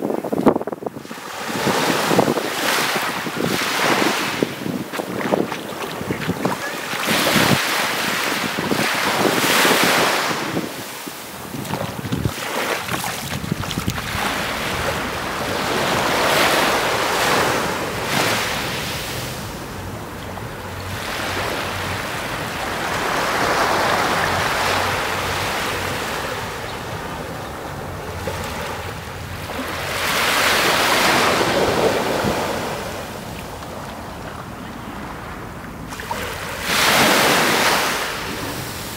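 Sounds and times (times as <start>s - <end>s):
small waves washing onto beach: 0.0s - 38.9s
wind buffeting microphone: 0.0s - 38.9s.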